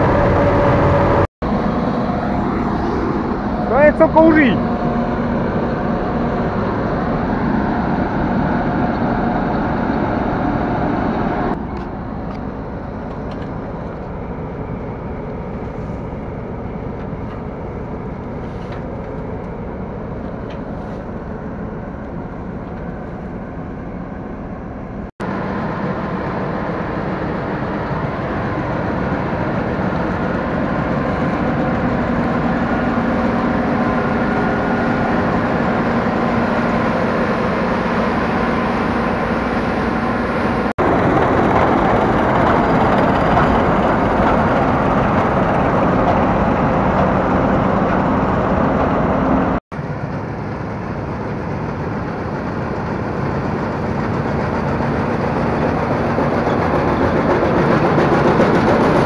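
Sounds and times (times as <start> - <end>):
combine harvester droning: 0.0 - 59.0.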